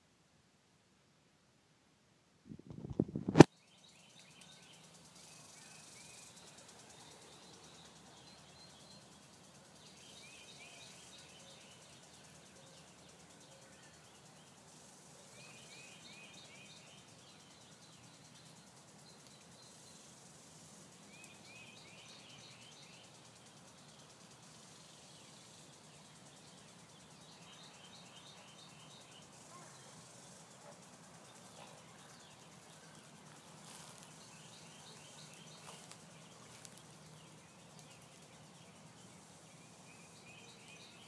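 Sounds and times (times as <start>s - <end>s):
faint outdoor background noise: 0.0s - 41.0s
small bird chirping: 2.8s - 41.0s.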